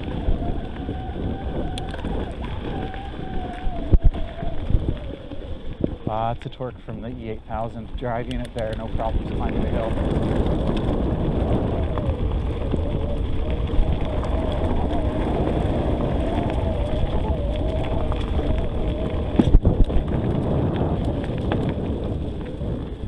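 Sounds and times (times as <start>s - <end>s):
electric motor whine: 0.0s - 6.1s, 9.0s - 22.9s
bike tyre rumble on dirt: 0.0s - 23.0s
wind noise on microphone: 0.0s - 23.0s.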